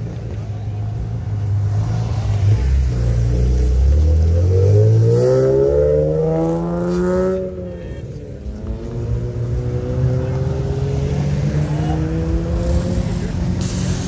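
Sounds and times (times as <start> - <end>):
car engine accelerating hard: 1.5 - 14.0.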